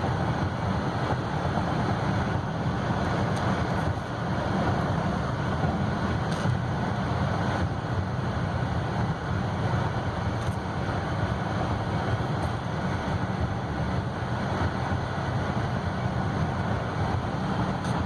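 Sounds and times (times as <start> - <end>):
road and tyre noise in car: 0.0 - 18.0.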